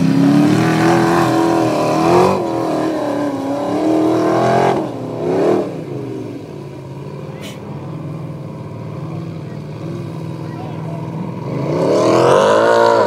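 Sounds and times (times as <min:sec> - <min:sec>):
buggy engine at high revs: 0:00.0 - 0:13.0.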